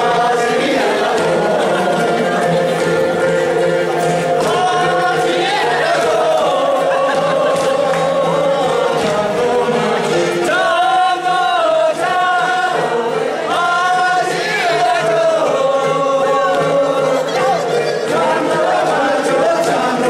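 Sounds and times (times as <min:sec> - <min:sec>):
group singing in unison: 0:00.0 - 0:20.0.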